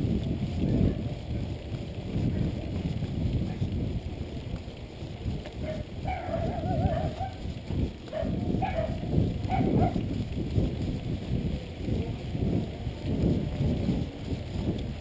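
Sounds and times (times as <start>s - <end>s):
bike tyres rumbling on dirt trail: 0.0s - 15.0s.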